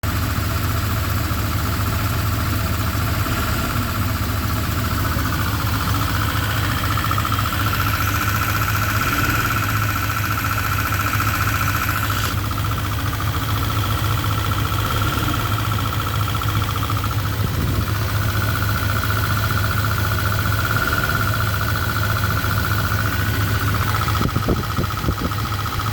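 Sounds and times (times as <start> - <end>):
car engine idling: 0.0 - 25.9
whine over engine: 0.1 - 25.9.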